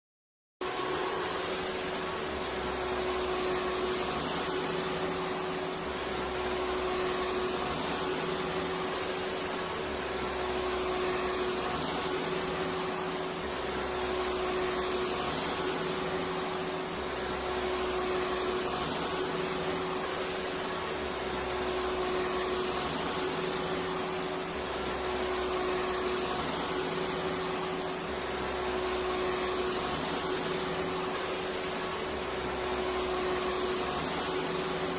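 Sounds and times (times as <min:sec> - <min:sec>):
vacuum cleaner running: 0:00.6 - 0:34.9.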